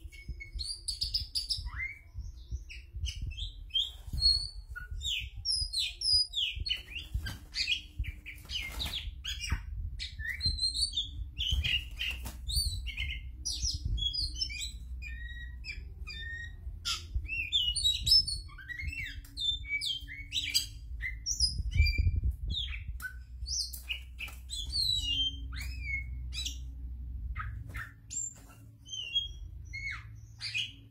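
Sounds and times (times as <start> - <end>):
bird whistles and chirps: 0.0 - 30.9
low background rumble: 0.0 - 30.9.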